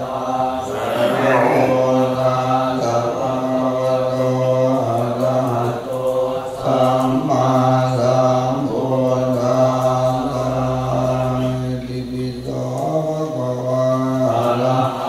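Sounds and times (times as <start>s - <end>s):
low voices chanting: 0.0s - 15.0s.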